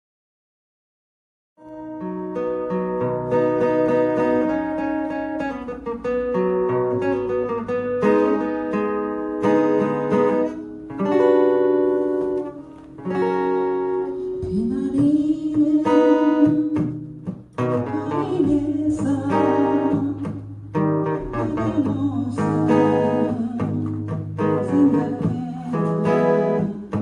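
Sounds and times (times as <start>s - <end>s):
acoustic guitar strumming: 1.6s - 27.0s.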